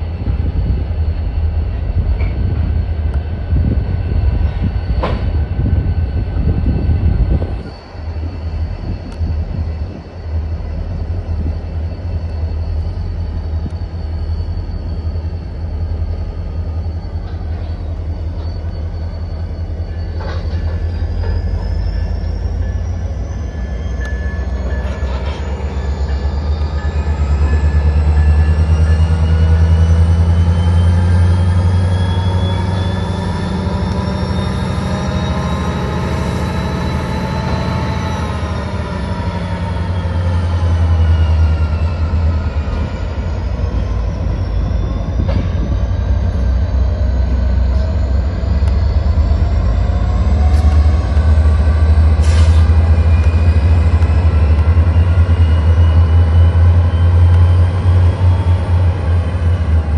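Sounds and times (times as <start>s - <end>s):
locomotive engine drone: 0.0s - 59.9s
short high squeal: 0.2s - 59.9s
rising high tones: 0.4s - 59.9s.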